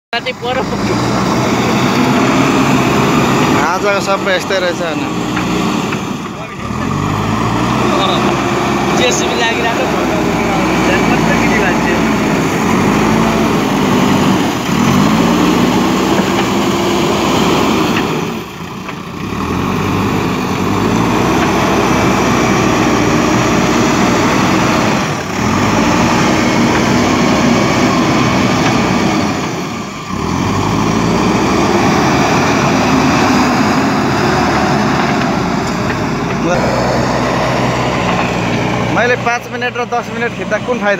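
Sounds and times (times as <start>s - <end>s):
diesel engine working under load: 0.1s - 40.9s.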